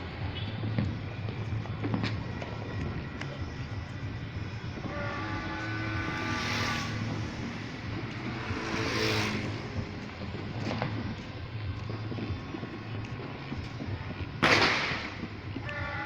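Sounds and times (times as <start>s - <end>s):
horns sounding: 0.0s - 11.1s, 12.4s - 16.0s
crowd and street noise: 0.0s - 16.0s.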